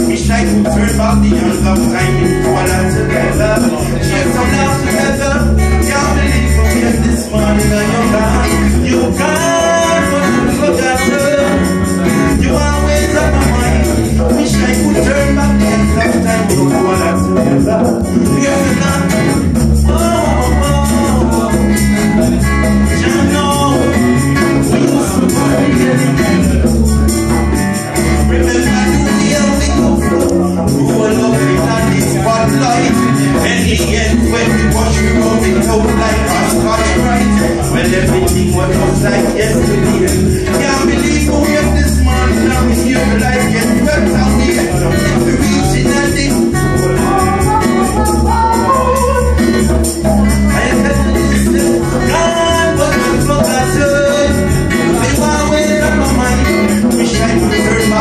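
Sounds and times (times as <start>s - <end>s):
live reggae band music: 0.0s - 58.0s
shaker percussion strokes: 0.0s - 58.0s.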